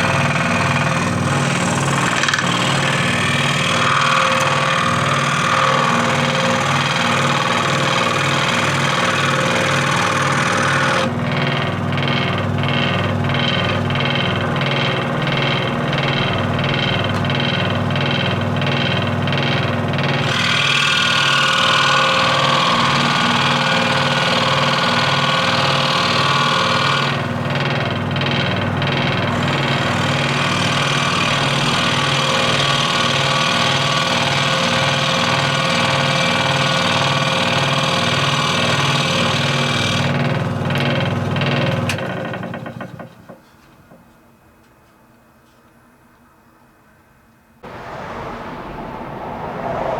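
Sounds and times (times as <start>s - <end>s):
scroll saw cutting wood: 0.0s - 41.2s.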